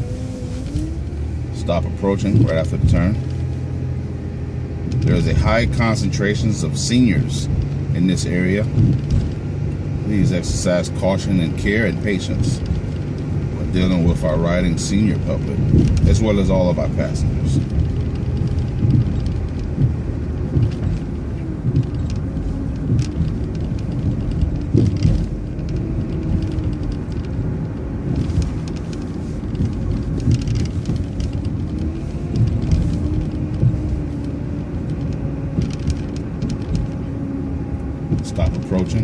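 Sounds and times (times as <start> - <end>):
bus engine and road rumble: 0.0 - 39.0
light rattles: 0.0 - 39.0.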